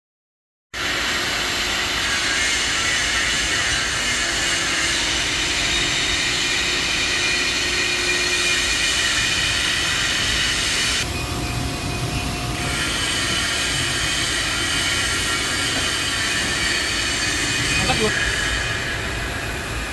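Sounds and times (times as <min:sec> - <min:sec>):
lifting machinery whining and rumbling: 0:00.8 - 0:19.9.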